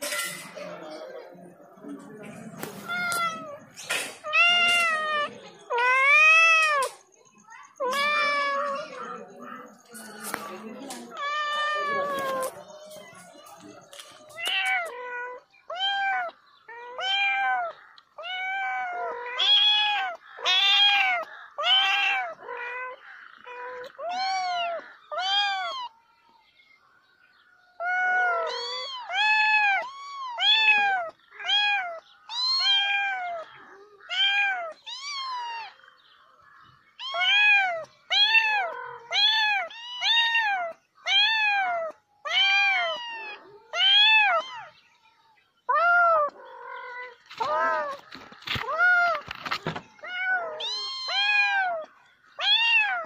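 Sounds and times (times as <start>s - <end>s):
cat meowing: 2.6s - 7.0s, 7.8s - 9.2s, 11.0s - 13.3s, 14.2s - 25.9s, 27.8s - 35.8s, 37.0s - 44.8s, 45.7s - 53.0s.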